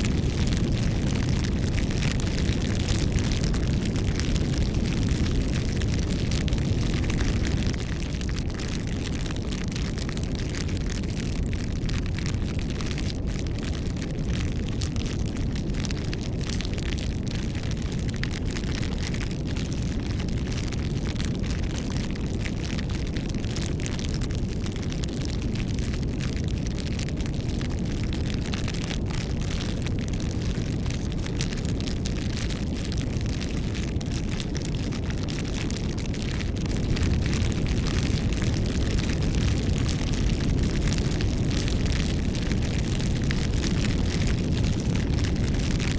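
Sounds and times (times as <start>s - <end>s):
burning wood crackling: 0.0s - 45.9s
low rumble of flames: 0.0s - 45.9s.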